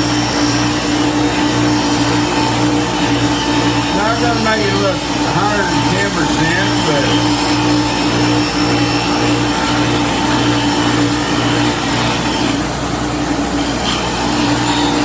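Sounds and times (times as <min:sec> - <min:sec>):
bench grinder motor hum: 0:00.0 - 0:15.0
grinding wheel gritty hiss: 0:00.0 - 0:15.0.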